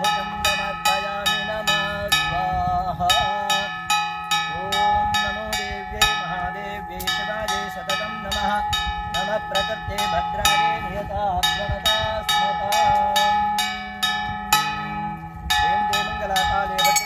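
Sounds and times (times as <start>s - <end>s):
steady low hum: 0.0s - 17.0s
temple bells ringing: 0.0s - 17.0s
wavering melodic line: 0.0s - 17.0s.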